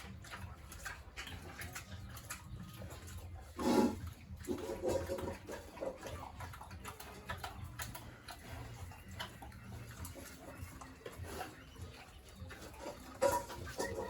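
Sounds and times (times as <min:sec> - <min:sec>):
pig grunting: 0:00.0 - 0:14.0.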